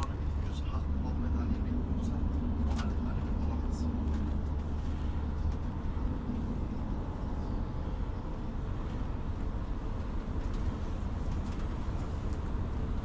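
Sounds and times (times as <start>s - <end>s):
bus engine drone: 0.0s - 13.0s
tyre road noise: 0.0s - 13.0s.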